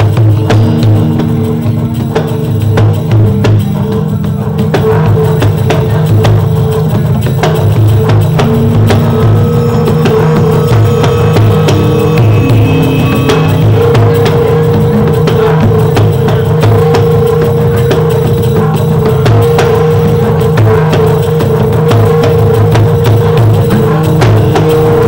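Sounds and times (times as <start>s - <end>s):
low pulsing drone: 0.0s - 25.0s
metallophone notes ringing: 0.0s - 25.0s.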